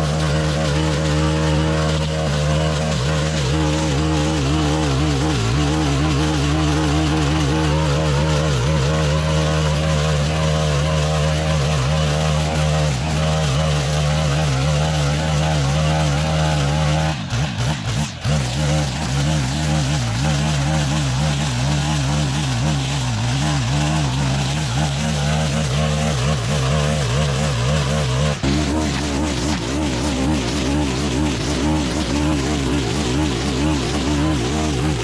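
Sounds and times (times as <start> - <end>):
brushcutter cutting grass: 0.0 - 35.0.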